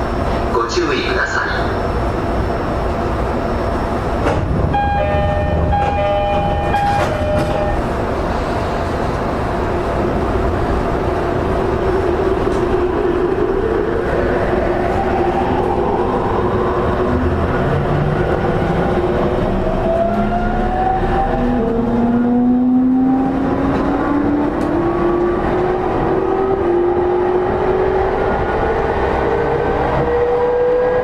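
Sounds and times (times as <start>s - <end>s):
train running noise: 0.0s - 31.0s.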